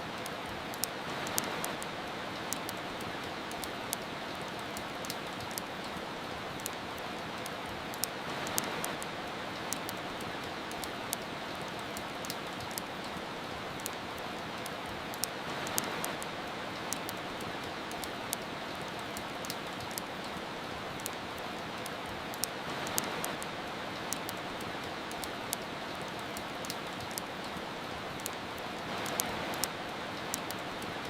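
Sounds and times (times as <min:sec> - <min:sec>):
soft rain hiss: 0:00.0 - 0:31.0
wood fire crackling: 0:00.0 - 0:31.0.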